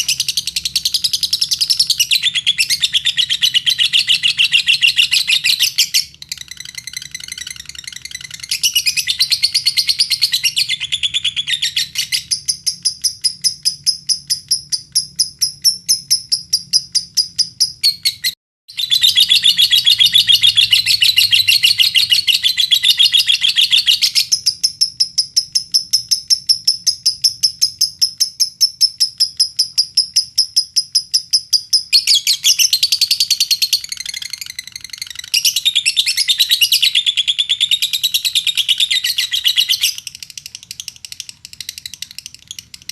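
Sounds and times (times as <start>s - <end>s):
lovebird chattering song: 0.0s - 42.9s.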